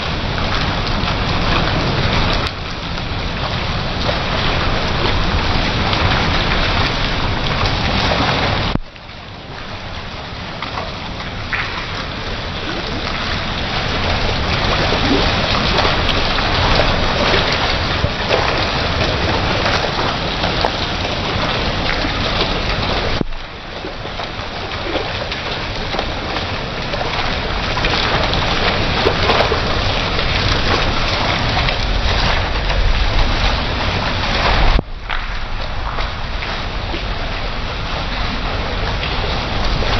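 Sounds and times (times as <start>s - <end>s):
water splashing onto tiled floor: 0.0s - 39.9s.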